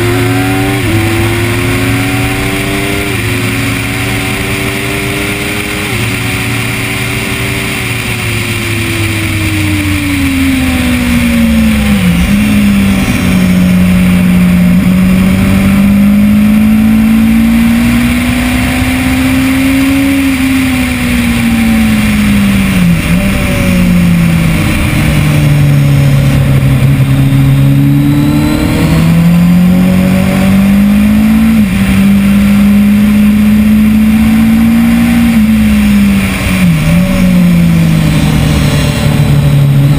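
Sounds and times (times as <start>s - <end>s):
gear changes: 0.0s - 39.9s
motorcycle engine revving: 0.0s - 39.9s
wind rush: 0.0s - 39.9s.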